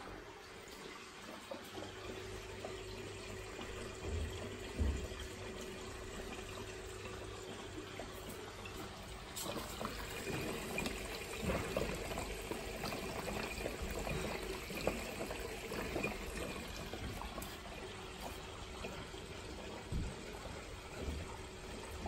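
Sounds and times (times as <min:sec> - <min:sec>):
water trickling into tank: 0:00.0 - 0:22.0.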